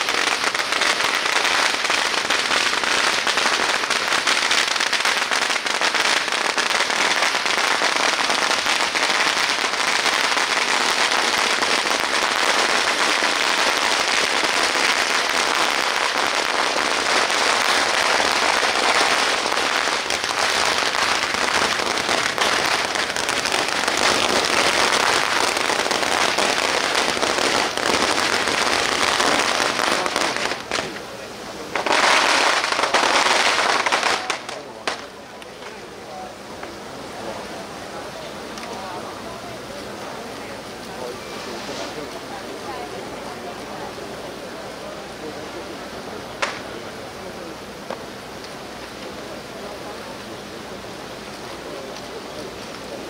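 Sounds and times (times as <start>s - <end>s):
firecrackers popping: 0.0s - 53.0s.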